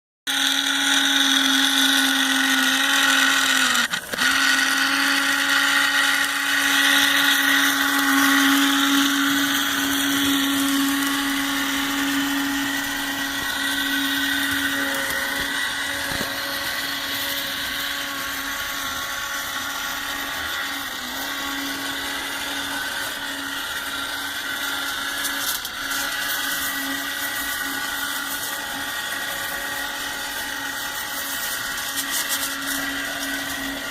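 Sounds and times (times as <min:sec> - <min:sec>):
small electric motor whining: 0:00.3 - 0:33.9.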